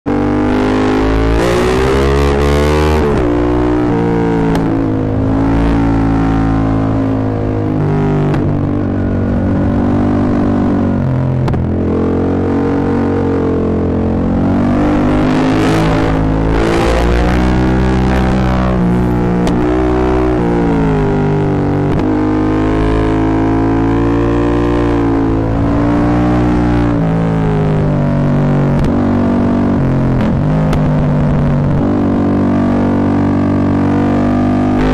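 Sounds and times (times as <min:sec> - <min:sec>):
loud motorcycle exhaust: 0:00.1 - 0:34.9.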